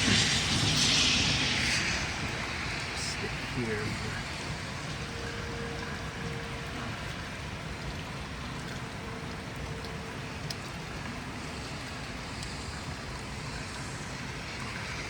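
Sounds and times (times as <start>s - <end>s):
vehicle rumbling: 0.0s - 15.0s
wind: 0.0s - 15.0s.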